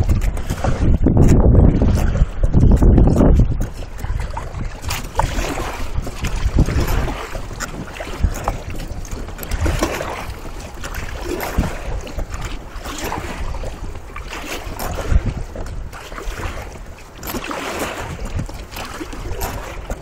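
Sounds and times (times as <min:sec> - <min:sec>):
water sloshing against boat: 0:00.0 - 0:20.0
wind buffeting microphone: 0:00.0 - 0:20.0.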